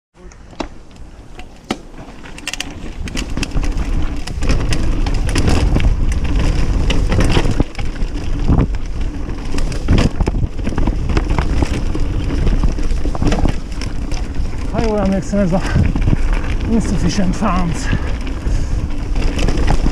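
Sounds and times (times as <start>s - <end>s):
bike tyres rumbling on gravel: 0.2s - 19.9s
bike rattling on bumps: 0.4s - 19.9s.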